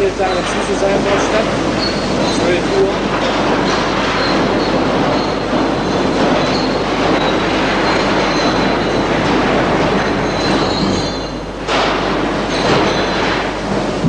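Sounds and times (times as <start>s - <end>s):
mine cars clattering on rails: 0.0s - 14.0s.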